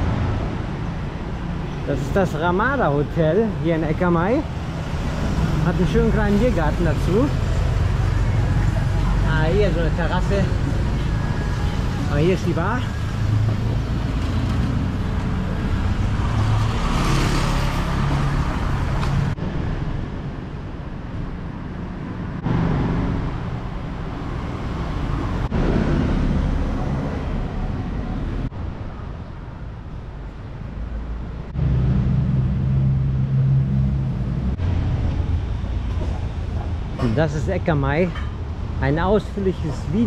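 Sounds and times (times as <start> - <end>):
car engines running and passing: 0.0 - 40.0.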